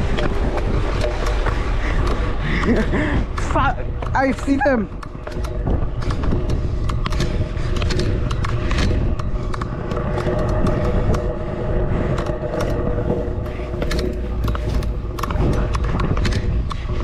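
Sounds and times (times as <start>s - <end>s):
steady hum: 0.0s - 17.0s
wind buffeting microphone: 0.0s - 17.0s.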